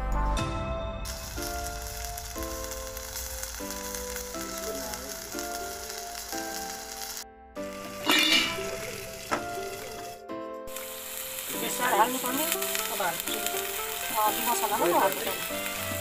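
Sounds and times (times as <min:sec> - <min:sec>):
music of sustained notes: 0:00.0 - 0:16.0
food sizzling in hot oil: 0:01.1 - 0:16.0.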